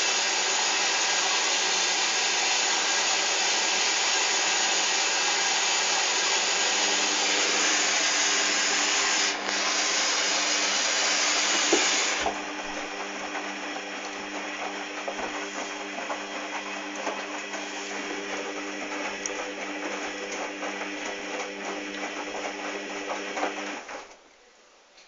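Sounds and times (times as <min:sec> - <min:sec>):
washing machine hum: 0:00.0 - 0:24.1
water rushing into washing machine: 0:00.0 - 0:24.1.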